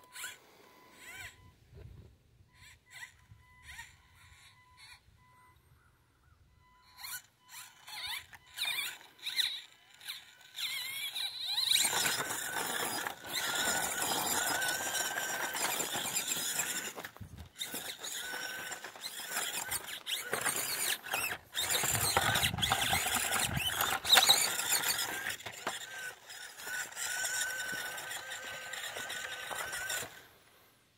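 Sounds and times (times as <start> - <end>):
toy car motor and gears whining: 0.0 - 5.8, 6.4 - 30.5.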